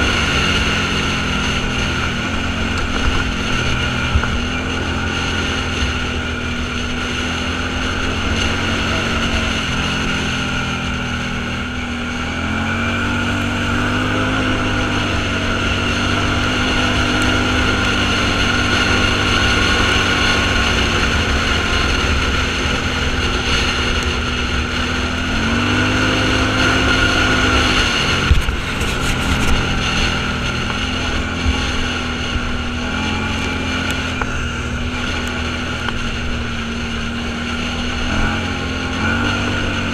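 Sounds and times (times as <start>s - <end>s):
off-road vehicle engine running: 0.0s - 39.9s
wind noise on microphone: 0.0s - 39.9s.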